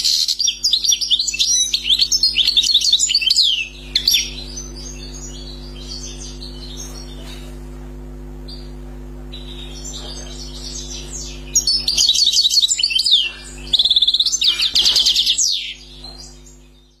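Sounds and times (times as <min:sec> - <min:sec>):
goldfinch twittering song: 0:00.0 - 0:07.5, 0:09.3 - 0:17.0
steady low hum: 0:00.0 - 0:17.0.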